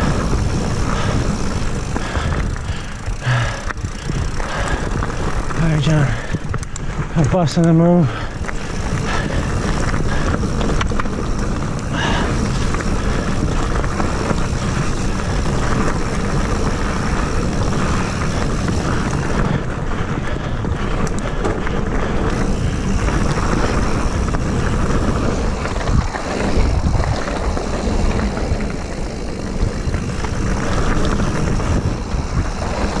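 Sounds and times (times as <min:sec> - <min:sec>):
bike knocks and rattles: 0:00.0 - 0:33.0
tyres rumbling on dirt: 0:00.0 - 0:33.0
wind buffeting microphone: 0:00.0 - 0:33.0.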